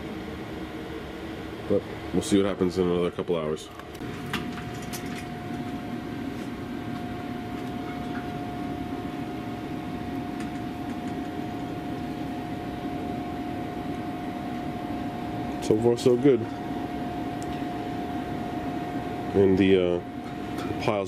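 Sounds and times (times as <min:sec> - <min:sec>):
grill fan hum with whine: 0:00.0 - 0:21.0.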